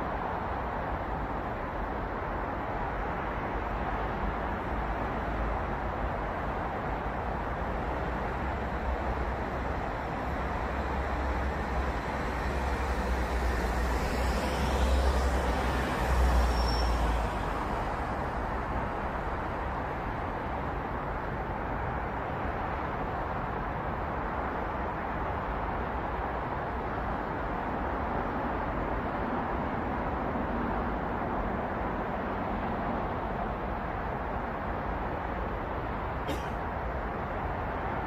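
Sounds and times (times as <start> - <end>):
city road traffic: 0.0 - 38.0.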